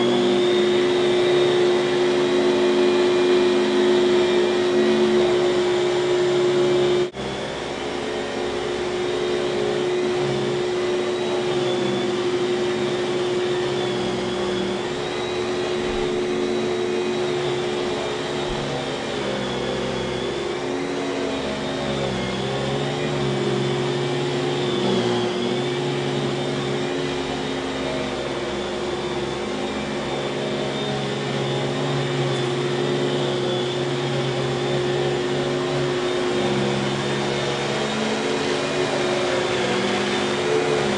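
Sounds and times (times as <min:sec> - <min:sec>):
vacuum cleaner motor whining: 0:00.0 - 0:40.9.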